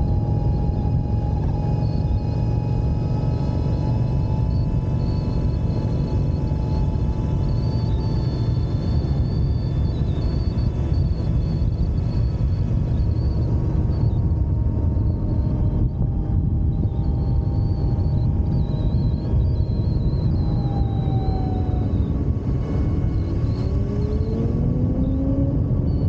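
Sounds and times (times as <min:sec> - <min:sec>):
faint high whine: 0:00.0 - 0:26.0
motorcycle road rumble: 0:00.0 - 0:26.0
wind rush: 0:00.0 - 0:26.0.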